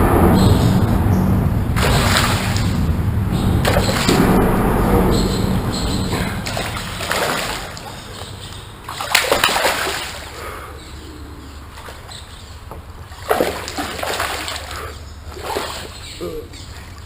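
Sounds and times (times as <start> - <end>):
low water wash: 0.0 - 17.0
water splashing: 0.0 - 17.0.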